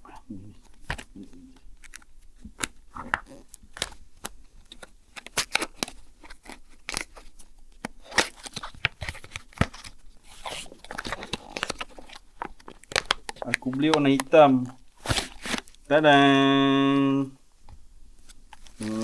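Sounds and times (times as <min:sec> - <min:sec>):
packaging tearing and crinkling: 0:00.6 - 0:15.8, 0:18.5 - 0:19.0.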